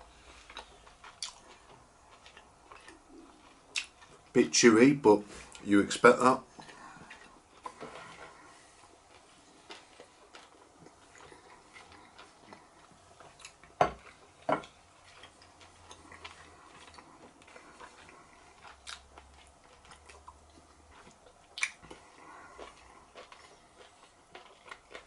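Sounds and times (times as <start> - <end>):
person chewing: 0.0 - 4.4, 5.4 - 25.0.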